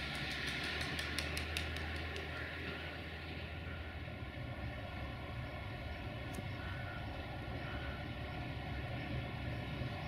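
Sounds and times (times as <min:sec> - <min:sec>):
locomotive engine rumble: 0:00.0 - 0:10.0
steady whine: 0:00.0 - 0:10.0.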